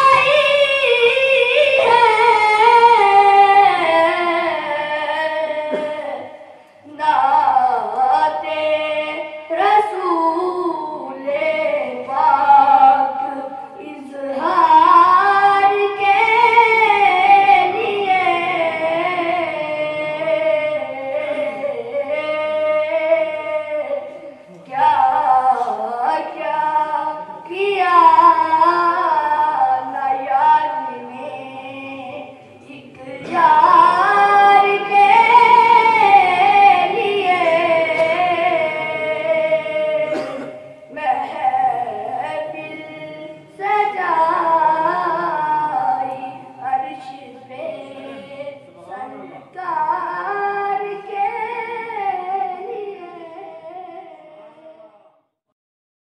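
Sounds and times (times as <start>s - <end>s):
boy singing into a microphone: 0.0s - 55.3s.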